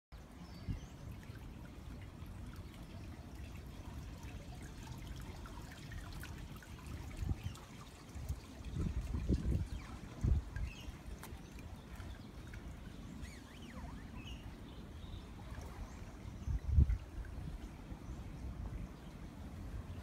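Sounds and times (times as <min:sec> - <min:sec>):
water trickling over pool edge: 0:00.2 - 0:20.0.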